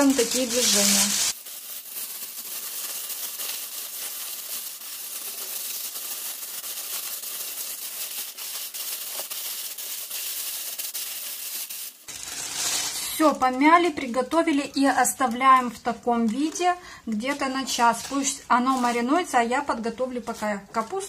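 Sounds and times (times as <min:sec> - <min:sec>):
plastic sleeve crinkling: 0:00.0 - 0:21.0.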